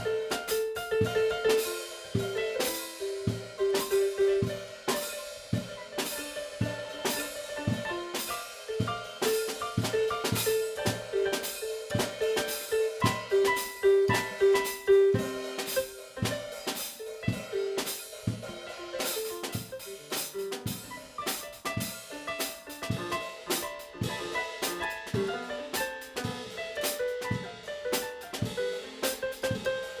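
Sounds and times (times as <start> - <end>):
drum kit playing busy beat: 0.0 - 30.0.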